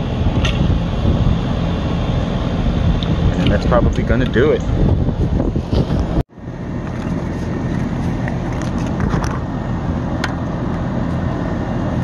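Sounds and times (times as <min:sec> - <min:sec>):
air conditioner hum and fan: 0:00.0 - 0:12.0.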